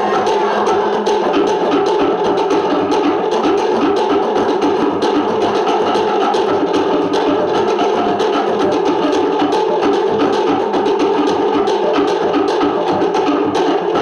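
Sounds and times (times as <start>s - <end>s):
fast wooden drum rhythm: 0.0s - 14.0s.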